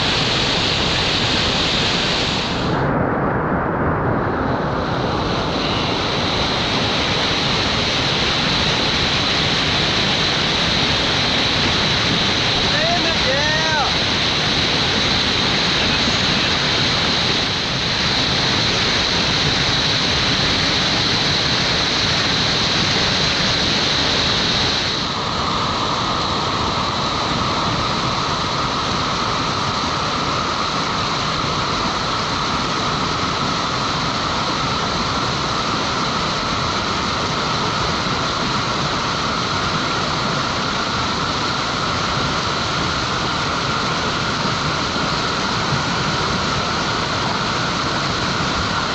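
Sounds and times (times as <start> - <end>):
whitewater rushing: 0.0 - 48.9.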